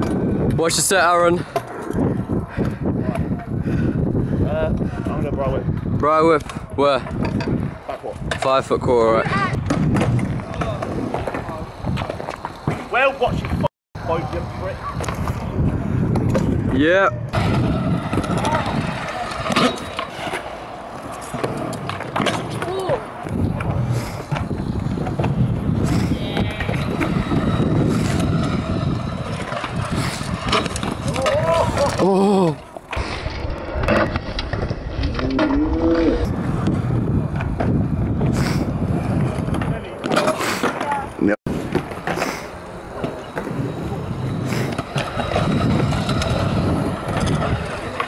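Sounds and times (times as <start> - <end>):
scooter wheels rolling on concrete: 0.0 - 48.0.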